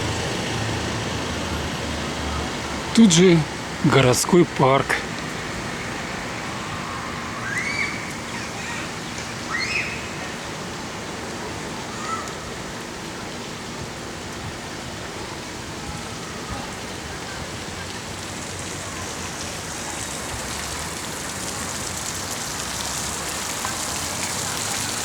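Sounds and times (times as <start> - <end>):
rushing outdoor noise: 0.0 - 25.0.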